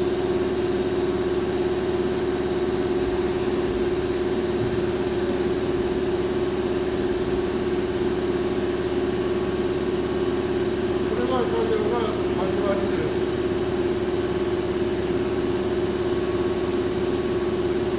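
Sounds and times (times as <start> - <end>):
lathe humming with high whine: 0.0 - 17.9.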